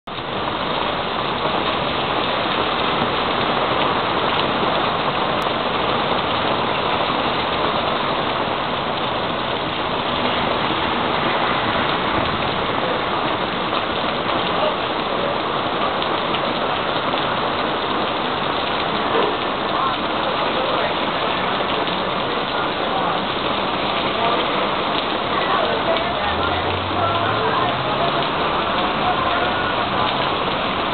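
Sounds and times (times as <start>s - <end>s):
steady rain hiss: 0.1s - 30.9s.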